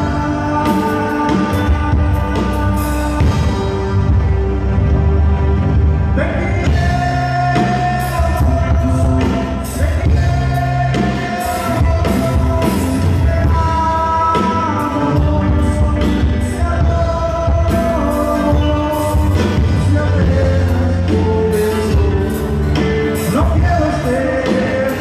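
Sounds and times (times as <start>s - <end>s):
lead singer on microphone: 0.0s - 25.0s
live band playing: 0.0s - 25.0s.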